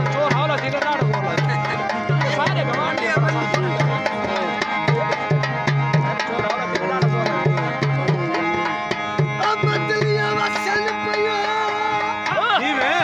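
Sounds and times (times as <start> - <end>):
hand drum beating: 0.0 - 13.0
harmonium melody with drone: 0.0 - 13.0.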